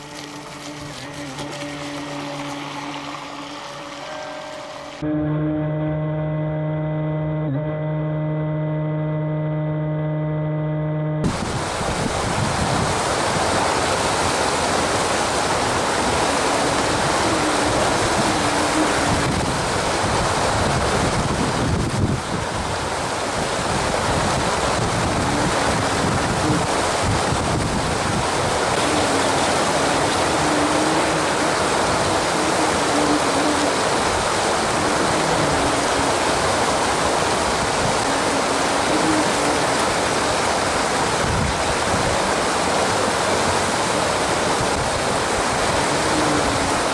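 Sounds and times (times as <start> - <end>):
water rushing over a weir: 0.0 - 46.9
wavering boat motor hum: 0.0 - 46.9.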